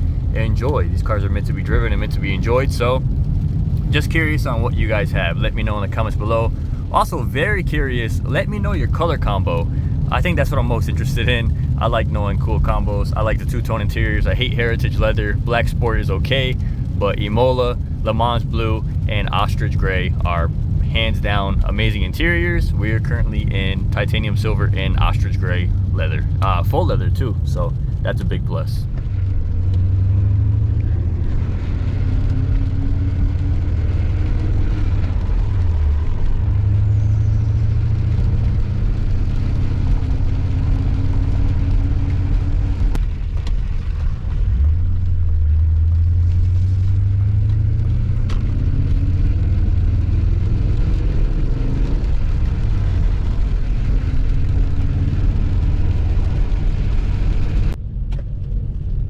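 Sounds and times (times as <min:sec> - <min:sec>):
car engine revving while driving: 0:00.0 - 0:57.8.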